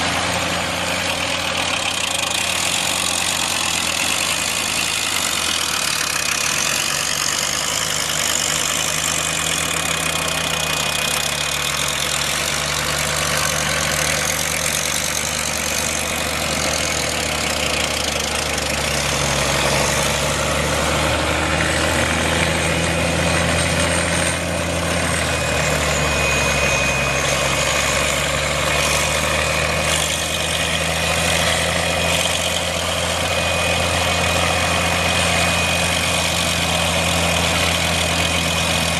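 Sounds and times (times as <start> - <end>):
drill engine idling: 0.0 - 38.9.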